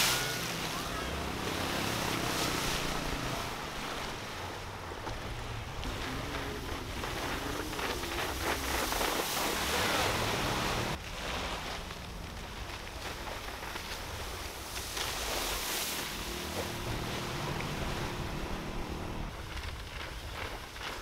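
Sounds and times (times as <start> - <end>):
board skimming water spray: 0.0 - 21.0
shallow surf: 0.0 - 21.0
wind buffeting microphone: 0.0 - 21.0.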